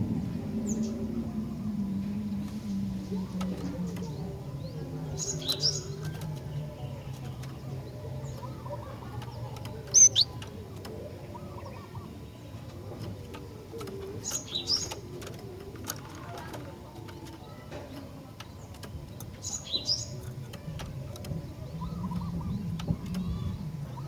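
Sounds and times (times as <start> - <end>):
bird chirping: 0.6 - 24.0.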